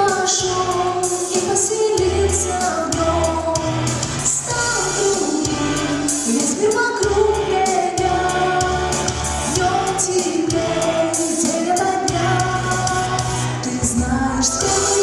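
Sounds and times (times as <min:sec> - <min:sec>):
backing track with bass line: 0:00.0 - 0:15.0
woman singing pop song: 0:00.0 - 0:15.0.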